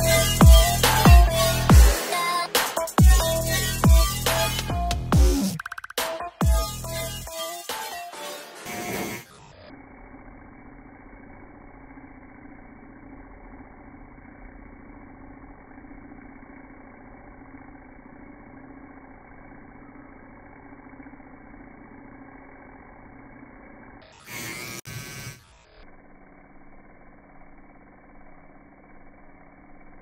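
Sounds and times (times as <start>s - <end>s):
tattoo machine buzzing: 0.0s - 30.0s.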